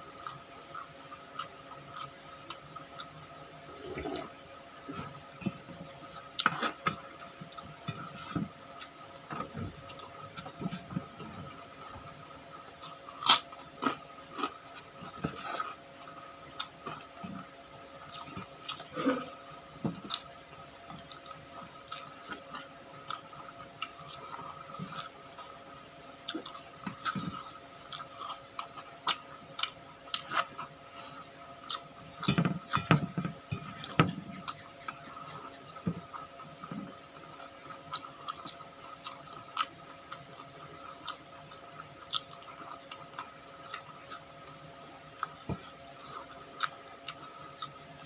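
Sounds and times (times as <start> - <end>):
faint steady hum: 0.0 - 48.0
person chewing food: 0.1 - 48.0.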